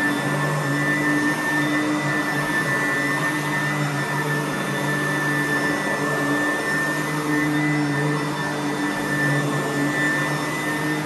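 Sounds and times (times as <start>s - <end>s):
vacuum cleaner on carpet: 0.0s - 11.0s.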